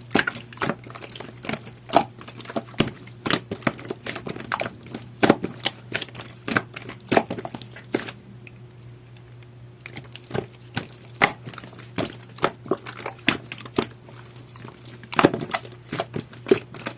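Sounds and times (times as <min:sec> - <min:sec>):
slime squished by hand: 0:00.0 - 0:16.9.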